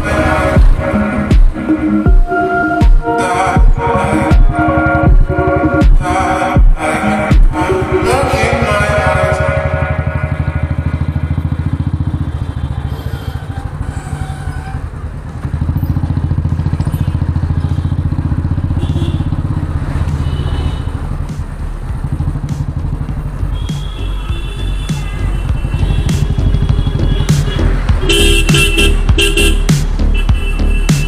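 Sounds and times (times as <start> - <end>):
motorcycle engine running: 0.0 - 3.0, 3.6 - 31.0.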